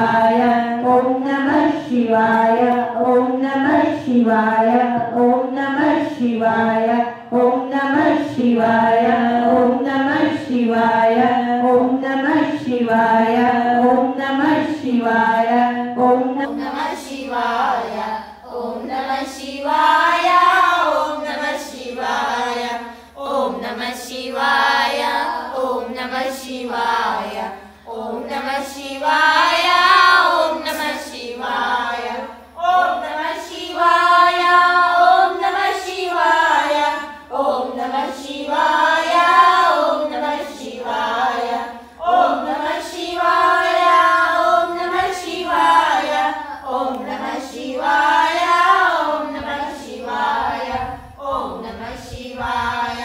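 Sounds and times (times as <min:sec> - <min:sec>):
women singing together: 0:00.0 - 0:53.0.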